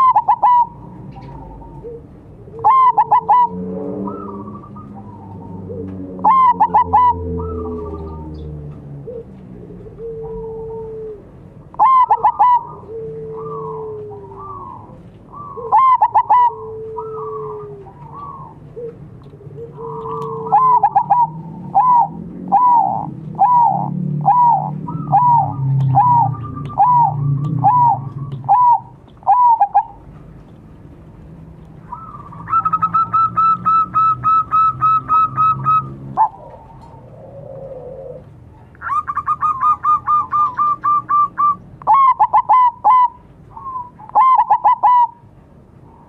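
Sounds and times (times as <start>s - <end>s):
doves cooing: 0.0s - 30.6s, 31.4s - 45.3s.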